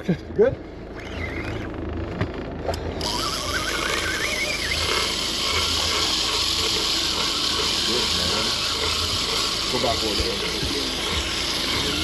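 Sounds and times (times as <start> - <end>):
boat engine hum: 0.0 - 12.0
fishing reel drag screaming: 0.9 - 1.8, 2.9 - 12.0.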